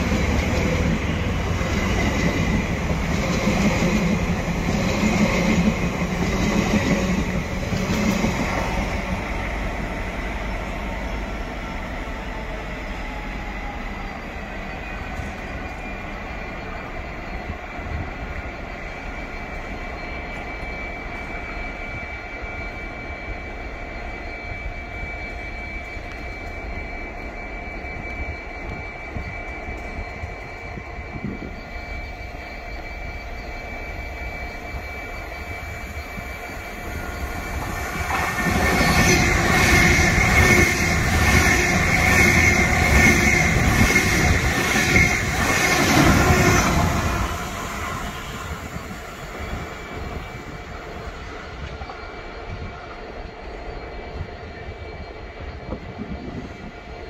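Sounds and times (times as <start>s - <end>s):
held whining tones: 0.0s - 57.0s
train rumbling: 0.0s - 57.0s.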